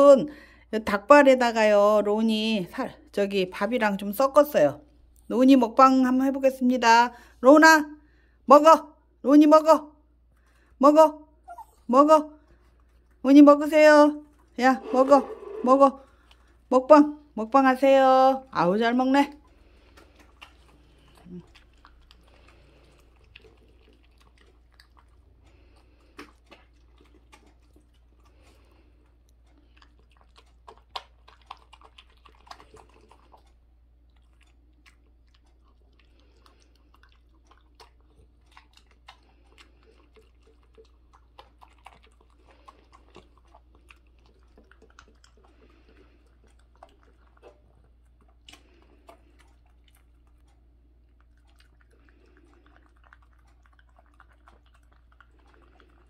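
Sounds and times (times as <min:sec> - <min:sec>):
dog chewing and crunching: 0:10.3 - 0:56.0.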